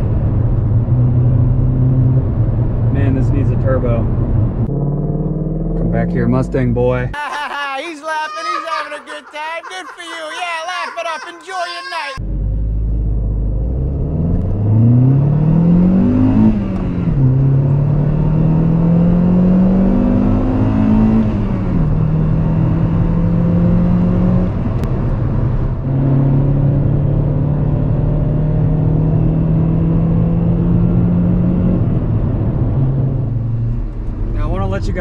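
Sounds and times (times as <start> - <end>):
car engine accelerating: 0.0 - 7.1, 12.2 - 35.0
road rumble: 0.0 - 7.2, 7.8 - 35.0.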